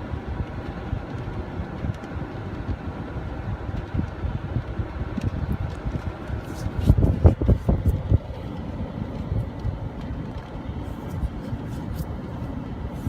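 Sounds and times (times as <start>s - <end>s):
wind buffeting microphone: 0.1s - 13.0s.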